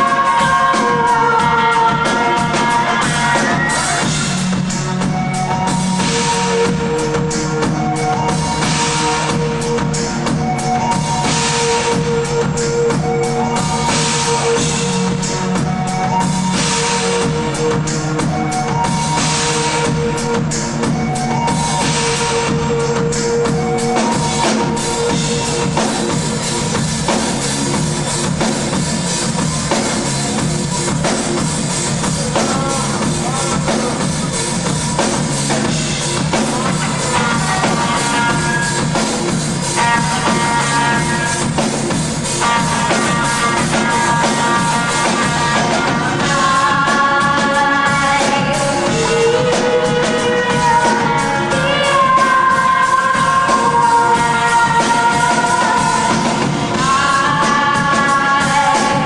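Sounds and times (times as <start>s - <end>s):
woman singing: 0.0s - 26.2s, 36.2s - 59.0s
drum kit: 0.0s - 59.0s
keyboards: 0.0s - 59.0s.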